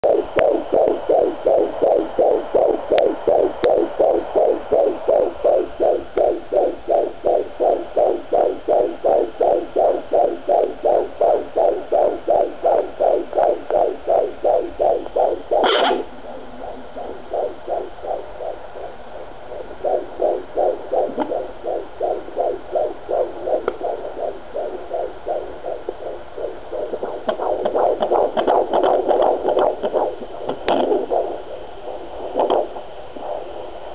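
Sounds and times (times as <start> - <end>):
probe crackle: 0.0 - 10.6, 11.7 - 18.9, 19.7 - 33.9
fetal heartbeat on doppler monitor: 0.0 - 33.9.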